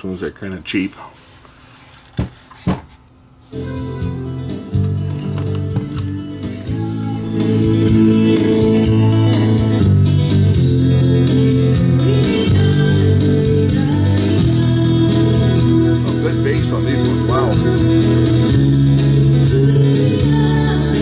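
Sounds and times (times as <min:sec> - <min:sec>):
music with singing and guitar: 0:03.5 - 0:21.0.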